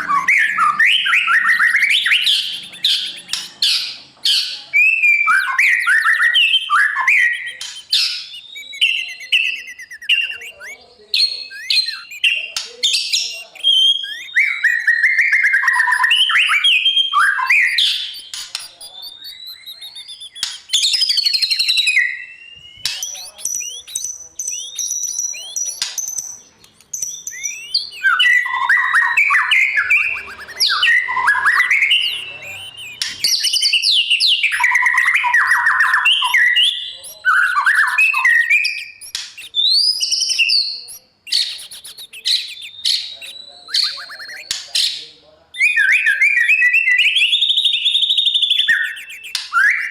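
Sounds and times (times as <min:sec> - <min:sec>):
bird singing whistles and trills: 0:00.0 - 0:44.7, 0:45.5 - 0:49.9.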